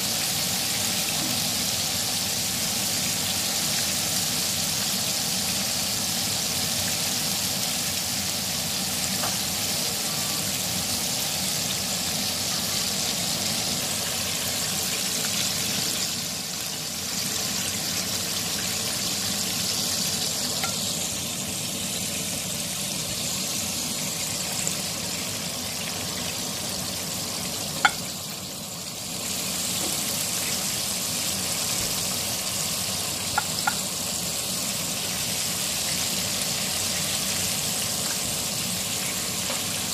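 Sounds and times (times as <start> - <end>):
chicken deep-frying in oil: 0.0 - 39.9.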